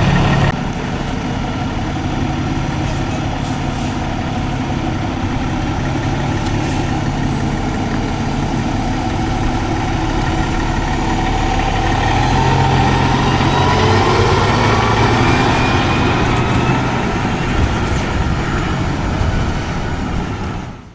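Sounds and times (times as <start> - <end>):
truck engine idling and revving: 0.0 - 20.9.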